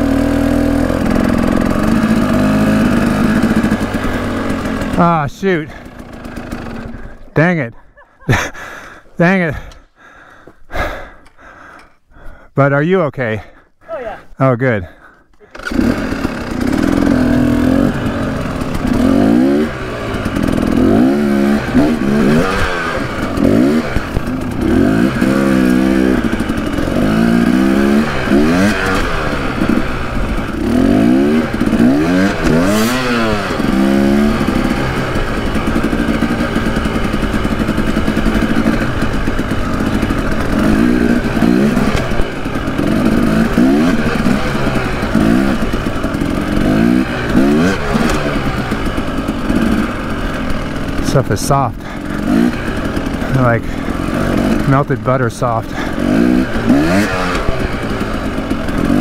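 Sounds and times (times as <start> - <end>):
dirt bike engine revving: 0.0 - 11.2, 14.5 - 59.0.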